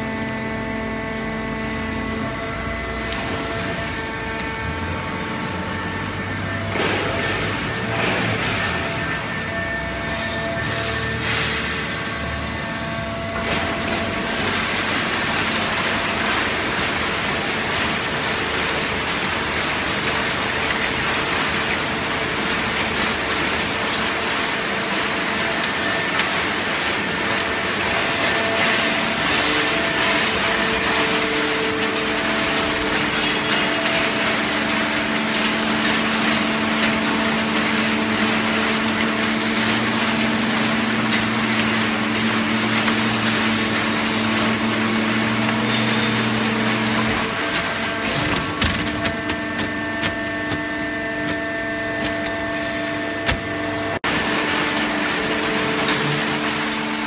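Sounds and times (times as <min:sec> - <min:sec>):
baling press mechanical din: 0:00.0 - 0:57.0
hydraulic unit hum: 0:00.0 - 0:57.0.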